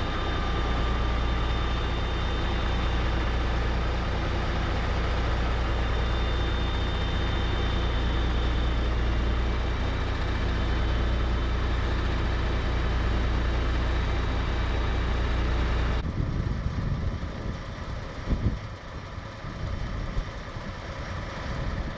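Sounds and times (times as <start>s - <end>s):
fire engine idling: 0.0s - 21.9s
unsteady low rumble: 0.0s - 21.9s.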